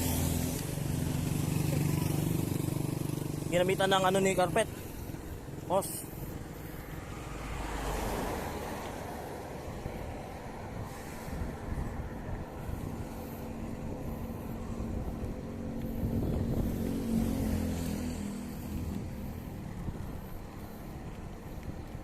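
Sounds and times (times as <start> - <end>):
vehicle engine passing: 0.0 - 21.1
wind rumbling on microphone: 4.1 - 22.0.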